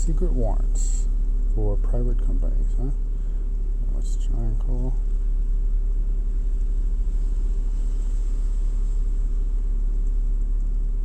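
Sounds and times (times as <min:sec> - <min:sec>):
constant hum: 0:00.0 - 0:11.0
low mechanical rumble: 0:00.0 - 0:11.0.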